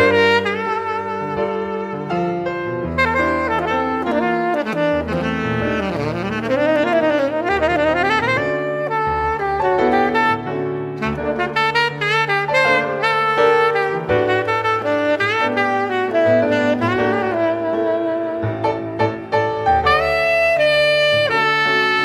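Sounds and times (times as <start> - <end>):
bass line: 0.0 - 22.0
jazz horn melody: 0.0 - 22.0.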